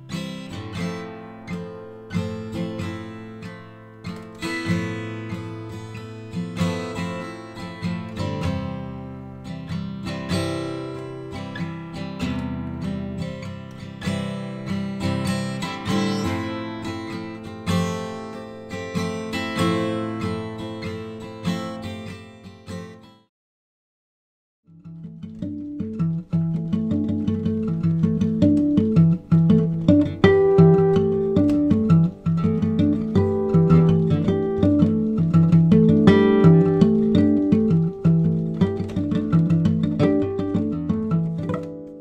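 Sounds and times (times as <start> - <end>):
strummed acoustic guitar: 0.0 - 23.2, 24.7 - 42.0.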